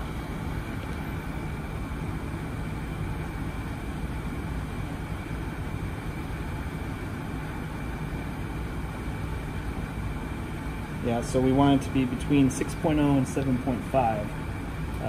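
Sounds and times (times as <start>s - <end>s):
gas furnace running: 0.0s - 15.0s.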